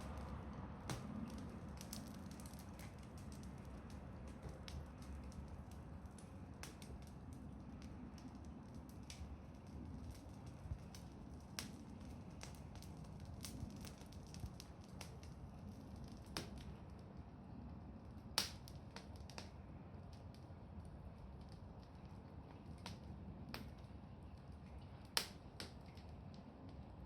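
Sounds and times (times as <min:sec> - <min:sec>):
bonfire crackling and popping: 0:00.0 - 0:27.0
low steady rumble: 0:00.0 - 0:27.0.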